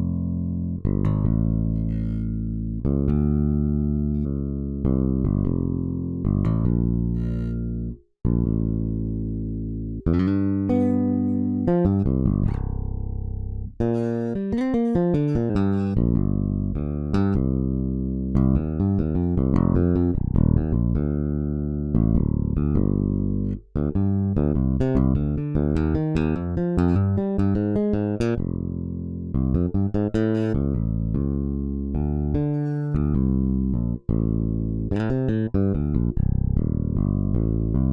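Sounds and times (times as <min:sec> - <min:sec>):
electric bass playing: 0:00.0 - 0:37.9.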